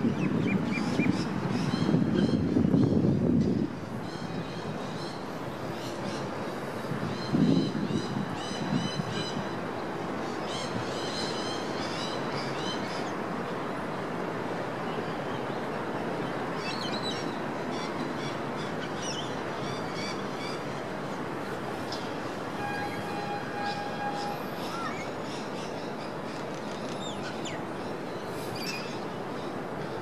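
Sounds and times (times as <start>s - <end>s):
city traffic hum: 0.0s - 30.0s.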